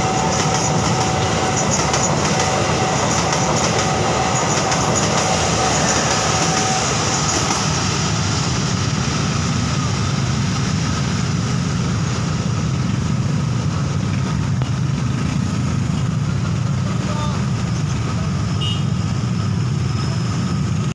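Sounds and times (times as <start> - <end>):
train coaches rolling past: 0.0 - 20.9.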